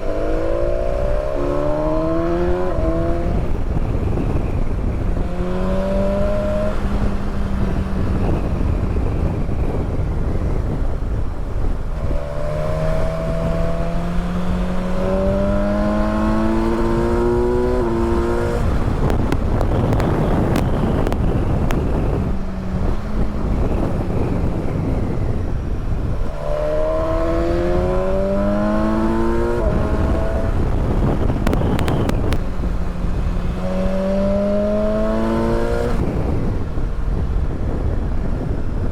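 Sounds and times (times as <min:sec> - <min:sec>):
motorcycle engine accelerating: 0:00.0 - 0:38.9
wind noise: 0:00.0 - 0:38.9.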